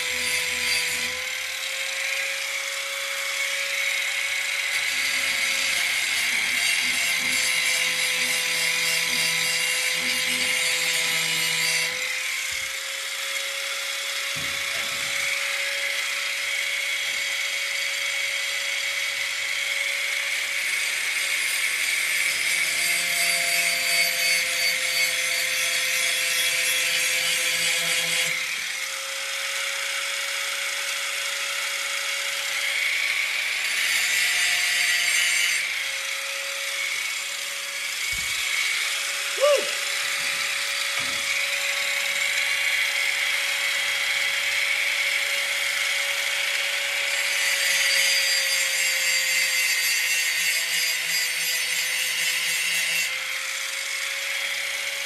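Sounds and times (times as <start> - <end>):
angle grinder grinding steel: 0.0 - 55.0.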